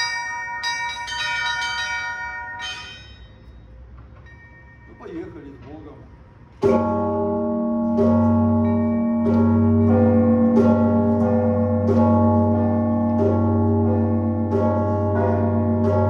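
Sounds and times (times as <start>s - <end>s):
church bells ringing: 0.0s - 5.5s, 6.6s - 16.0s.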